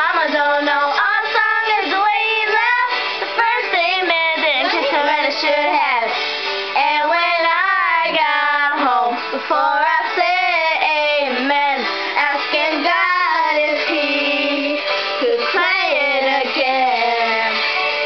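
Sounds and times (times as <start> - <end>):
girls singing pop song: 0.0 - 18.0.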